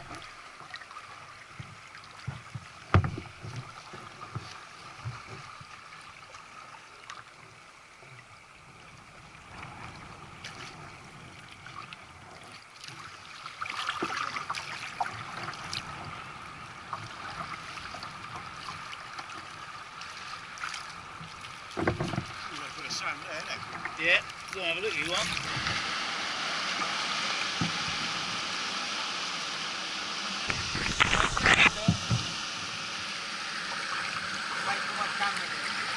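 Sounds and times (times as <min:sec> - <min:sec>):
water lapping around kayaks: 0:00.0 - 0:35.9.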